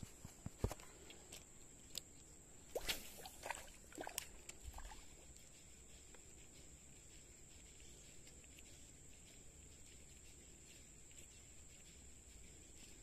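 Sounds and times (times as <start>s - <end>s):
high insect drone: 2.3s - 13.0s.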